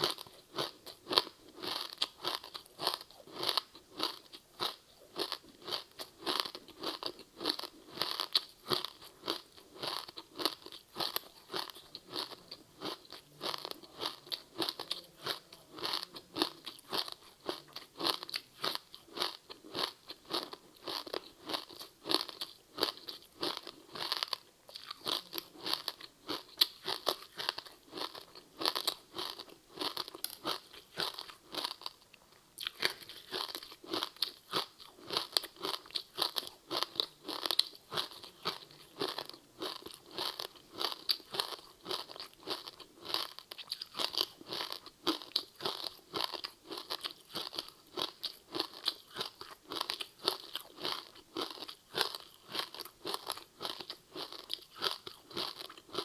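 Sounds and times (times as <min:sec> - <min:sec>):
crunching crispy snack: 0:00.0 - 0:56.0.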